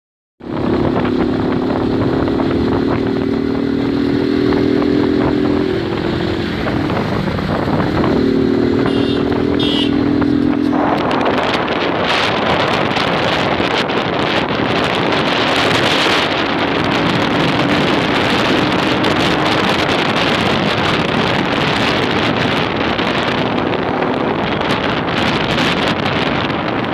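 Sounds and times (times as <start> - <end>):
motorcycle engine drone: 0.4 - 26.9
wind buffeting microphone: 0.4 - 26.9.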